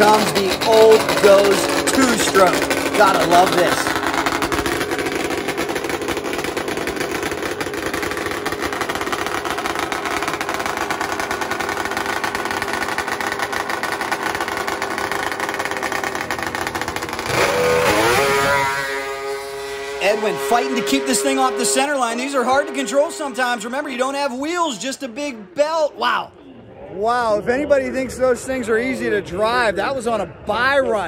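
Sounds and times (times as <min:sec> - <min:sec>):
snowmobile engine running hard: 0:00.0 - 0:25.4.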